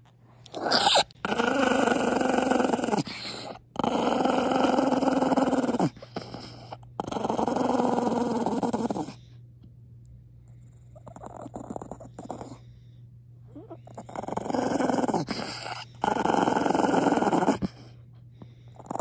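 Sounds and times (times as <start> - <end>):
dog growling: 0.5 - 9.2, 10.6 - 12.7, 13.5 - 17.9, 18.7 - 19.0.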